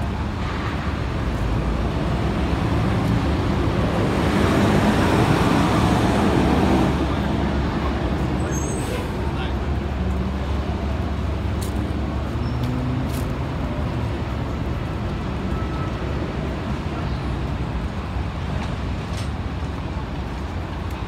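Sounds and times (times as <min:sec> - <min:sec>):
traffic engines rumbling: 0:00.0 - 0:21.0.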